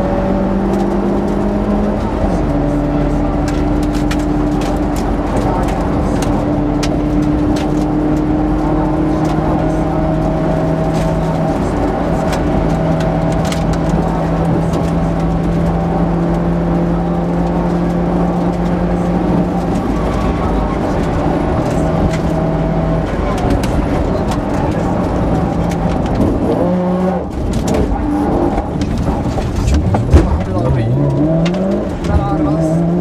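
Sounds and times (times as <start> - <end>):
car engine pulling hard: 0.0 - 33.0
road and tyre noise: 0.0 - 33.0.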